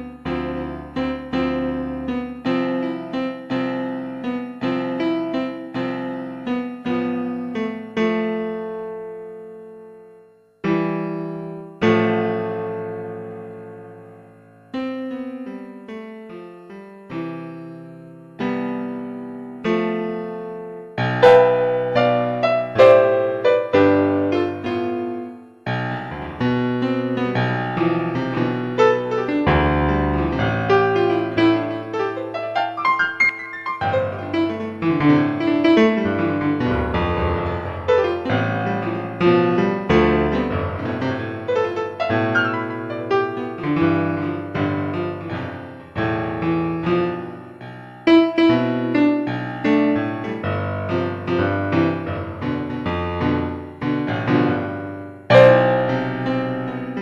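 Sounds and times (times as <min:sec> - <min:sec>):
solo piano music: 0:00.0 - 0:57.0.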